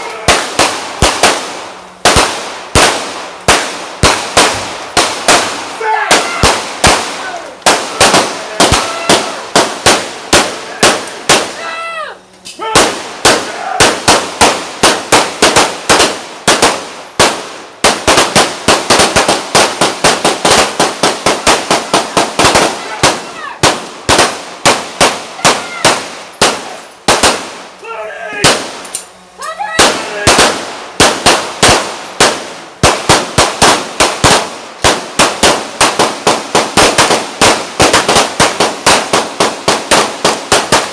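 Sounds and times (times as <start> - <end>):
rapid gunfire: 0.2 - 11.6, 12.8 - 27.7, 28.4 - 28.9, 29.7 - 40.9.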